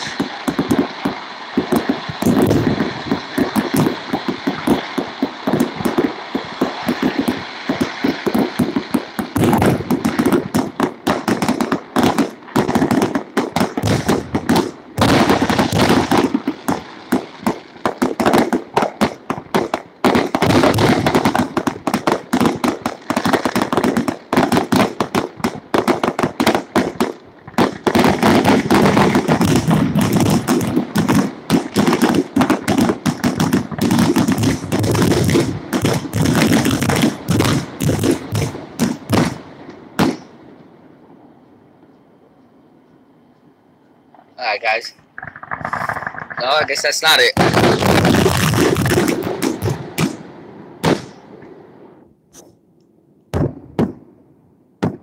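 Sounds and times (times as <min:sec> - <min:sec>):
fireworks bangs and crackling: 0:00.0 - 0:41.3, 0:44.4 - 0:52.6, 0:53.3 - 0:55.0.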